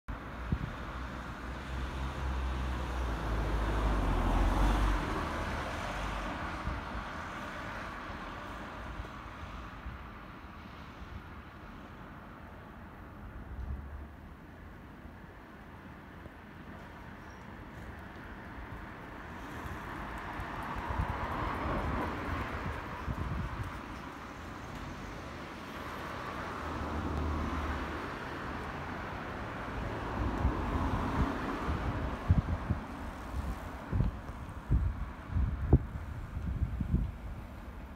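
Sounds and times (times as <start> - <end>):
passing vehicle rumble: 0.1 - 11.9, 16.8 - 37.9.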